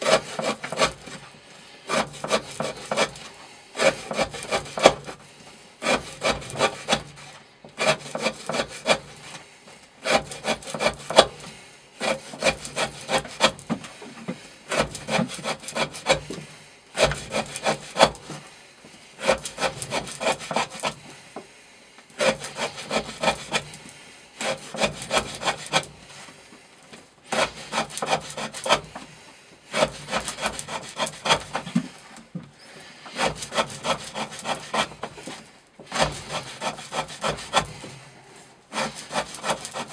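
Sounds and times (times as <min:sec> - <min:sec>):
knife sawing through rope: 0:00.0 - 0:18.5, 0:19.2 - 0:21.2, 0:22.1 - 0:26.4, 0:27.2 - 0:39.9.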